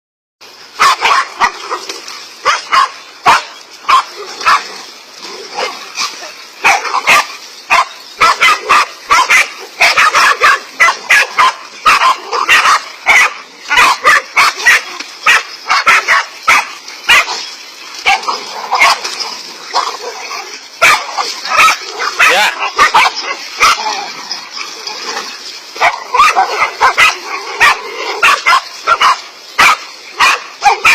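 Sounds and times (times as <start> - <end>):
dogs barking: 0.8 - 30.9.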